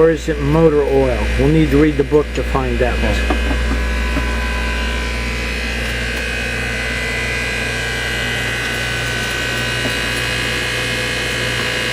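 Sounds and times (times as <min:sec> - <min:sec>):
motor hum with whine: 0:00.0 - 0:11.9.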